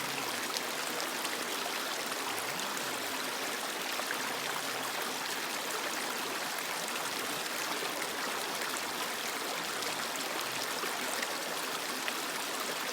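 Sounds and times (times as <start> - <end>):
creek water flowing over rocks: 0.0 - 12.9.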